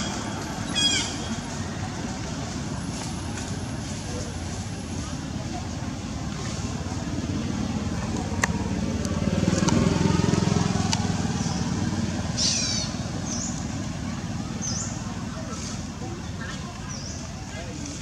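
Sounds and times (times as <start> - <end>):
vehicle engine passing by: 0.0 - 16.8.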